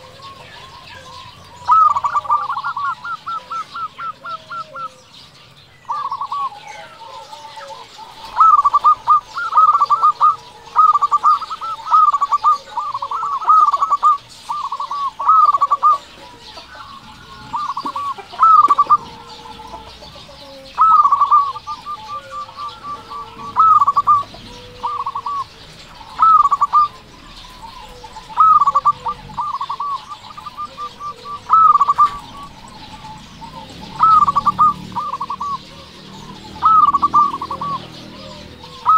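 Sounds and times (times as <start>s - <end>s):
dove cooing with trills: 0.0s - 38.9s.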